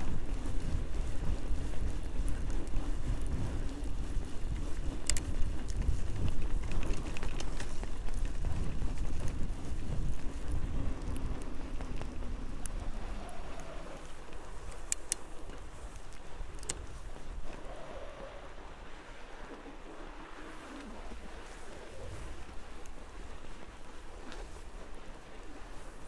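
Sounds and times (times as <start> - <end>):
tyres rolling over packed snow: 0.0 - 26.0.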